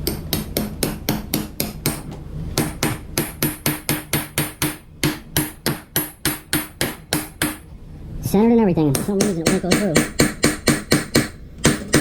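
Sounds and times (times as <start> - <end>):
hammer pounding bolt through steel: 0.0 - 7.6, 9.0 - 12.0.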